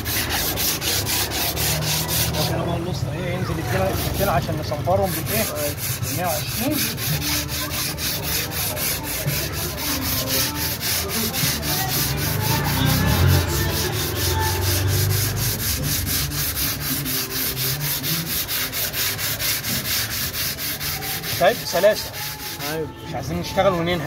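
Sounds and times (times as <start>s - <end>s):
hand sanding with sandpaper: 0.0s - 2.6s, 3.6s - 22.8s.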